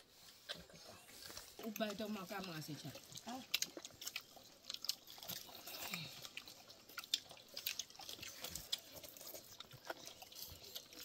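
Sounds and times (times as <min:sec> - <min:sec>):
people chewing and eating: 0:00.0 - 0:11.0.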